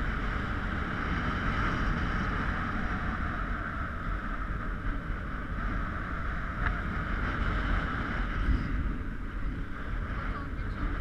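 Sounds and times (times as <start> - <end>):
motorbike engine hum: 0.0 - 11.0
wind buffeting microphone: 0.0 - 11.0.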